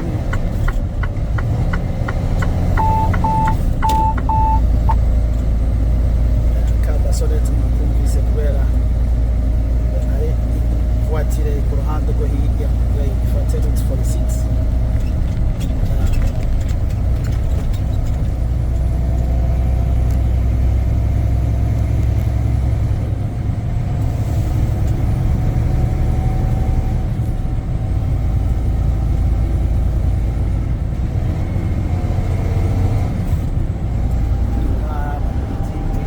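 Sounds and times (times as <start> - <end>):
diesel engine rumble: 0.0 - 36.0
road noise: 0.0 - 36.0.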